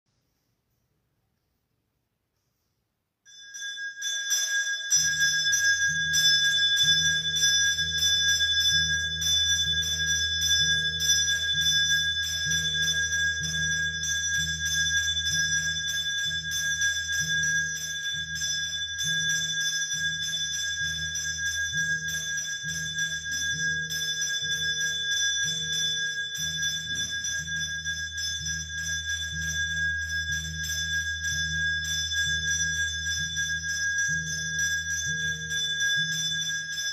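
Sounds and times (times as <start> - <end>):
bell rung rapidly: 3.3 - 36.9.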